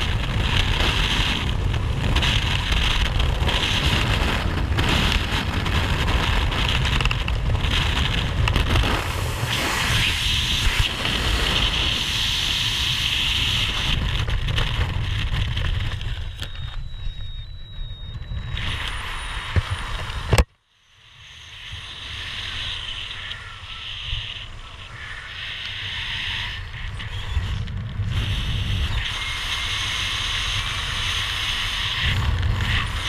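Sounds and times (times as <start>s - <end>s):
heavy wind rush on microphone: 0.0s - 33.0s.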